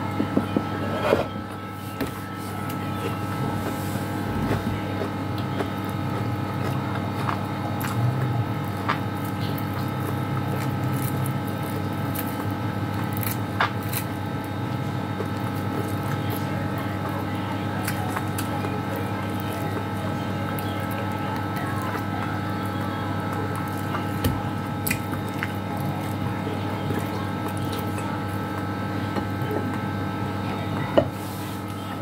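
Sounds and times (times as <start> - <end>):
steady low hum: 0.0 - 32.0
chewing and smacking: 3.0 - 29.8.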